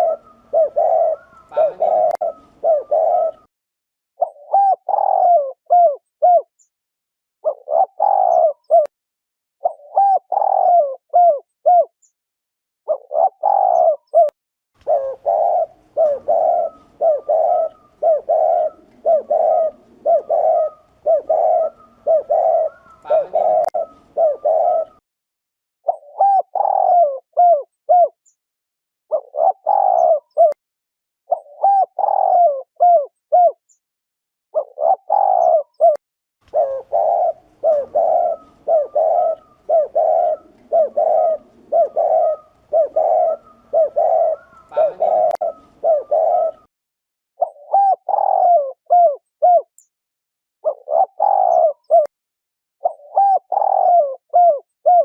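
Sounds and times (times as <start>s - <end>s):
dove cooing: 0.0s - 3.5s, 4.2s - 6.5s, 7.4s - 8.9s, 9.6s - 11.9s, 12.9s - 25.0s, 25.9s - 28.2s, 29.1s - 30.6s, 31.3s - 33.6s, 34.6s - 46.7s, 47.4s - 49.7s, 50.6s - 52.1s, 52.8s - 55.0s.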